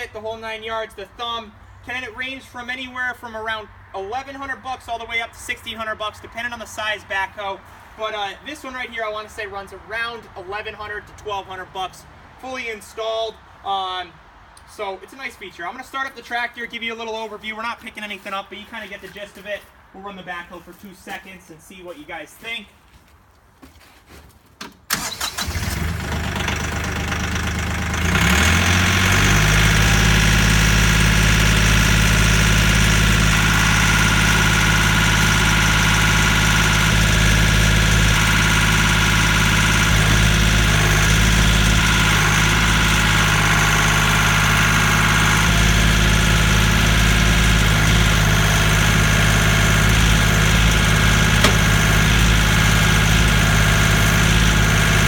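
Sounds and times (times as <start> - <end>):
tractor diesel engine: 0.0 - 14.7, 24.9 - 55.0.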